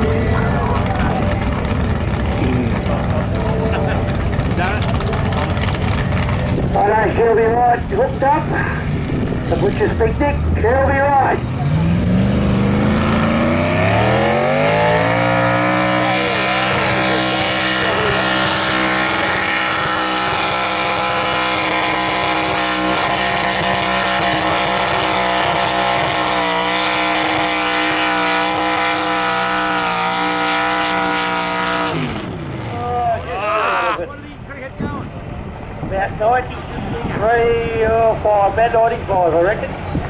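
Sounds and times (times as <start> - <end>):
tractor engine revving: 0.0 - 40.0.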